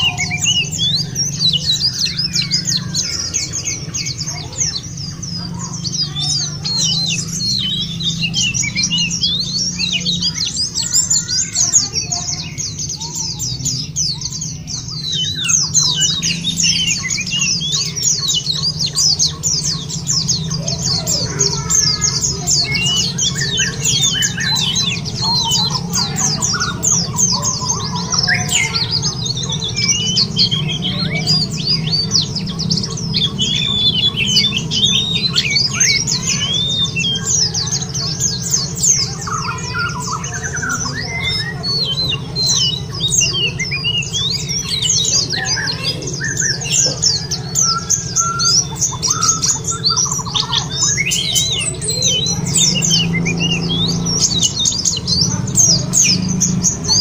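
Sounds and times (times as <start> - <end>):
birds twittering: 0.0 - 57.0.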